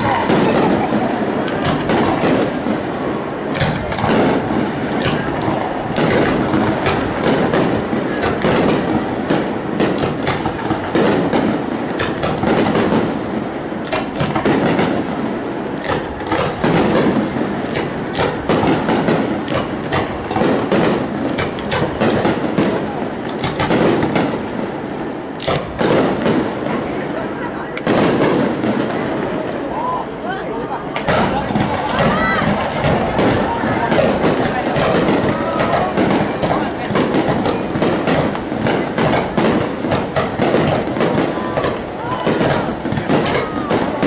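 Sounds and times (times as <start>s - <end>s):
continuous fireworks rumble: 0.0s - 44.0s
fireworks bangs and crackles: 0.0s - 44.0s.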